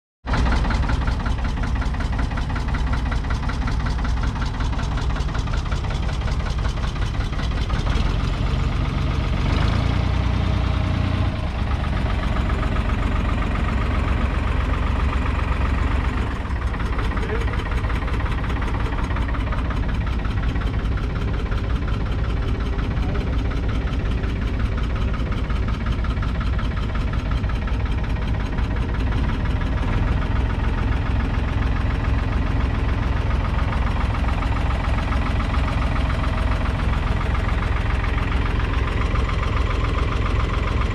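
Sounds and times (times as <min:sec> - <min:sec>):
tractor engine idling: 0:00.3 - 0:40.9.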